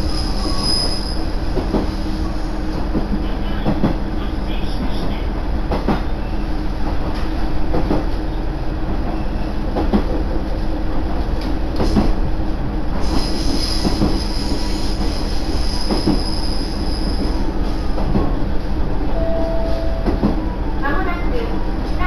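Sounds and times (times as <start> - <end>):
railcar rumble: 0.0 - 22.0.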